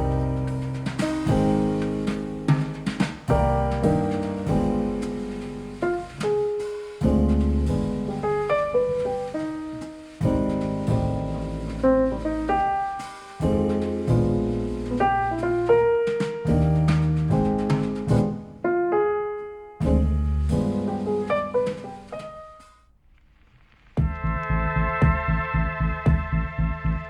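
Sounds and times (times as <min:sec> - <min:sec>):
piano music over speakers: 0:00.0 - 0:22.8.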